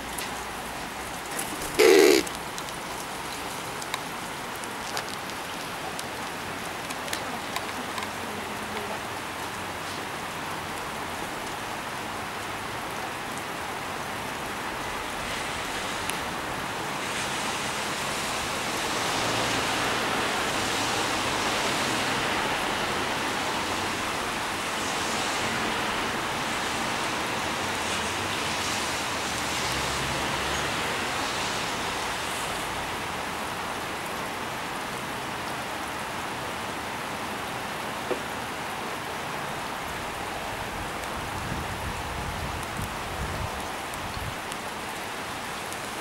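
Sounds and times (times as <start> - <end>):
steady rain hiss: 0.0 - 46.0.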